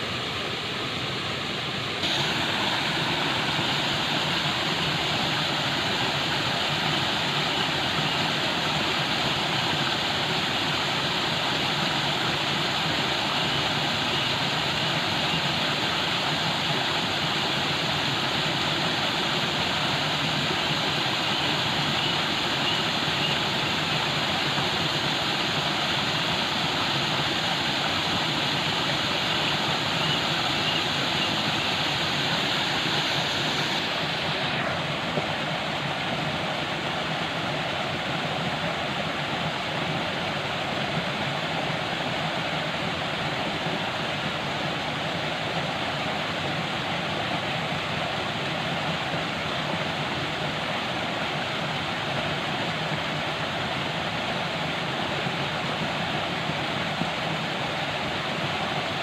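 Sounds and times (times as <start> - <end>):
falling water rushing: 0.0 - 59.0.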